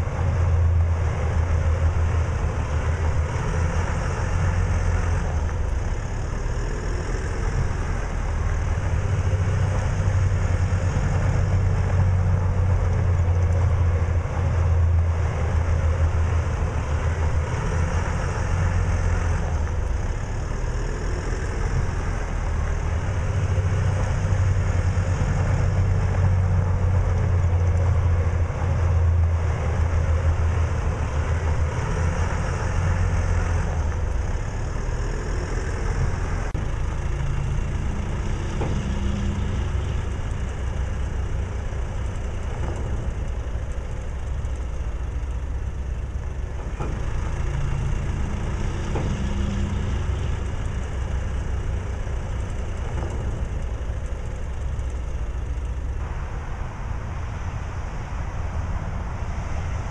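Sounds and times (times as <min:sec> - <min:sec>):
tow tractor engine rumbling: 0:00.0 - 0:59.9.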